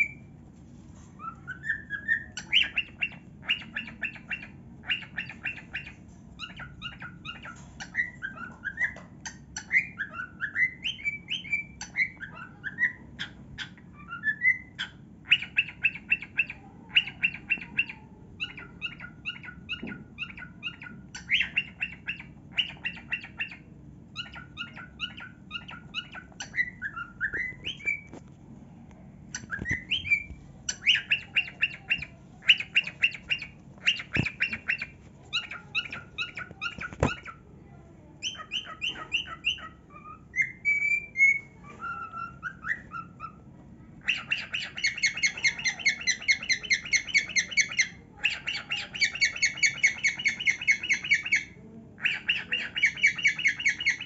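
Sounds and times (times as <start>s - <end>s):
cockatiel chirping and whistling: 0.0s - 0.2s, 1.2s - 28.2s, 29.3s - 37.4s, 38.2s - 43.4s, 44.0s - 54.0s.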